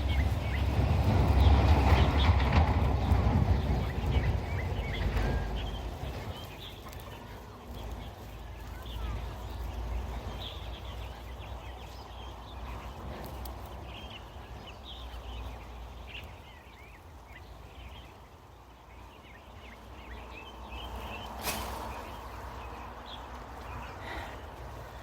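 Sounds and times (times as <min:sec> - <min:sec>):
low background rumble: 0:00.0 - 0:25.0
small birds chirping: 0:00.0 - 0:25.0.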